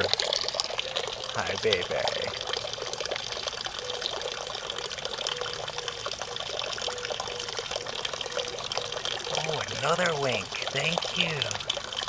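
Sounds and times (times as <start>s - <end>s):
water running from a hose: 0.0s - 12.0s.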